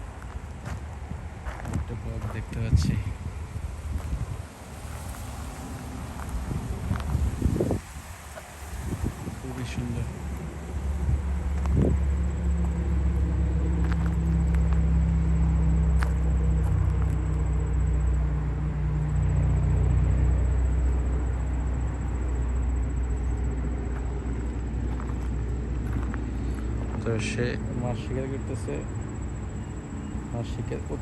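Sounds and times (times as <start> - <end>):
low rumble with deep hum: 0.0 - 31.0.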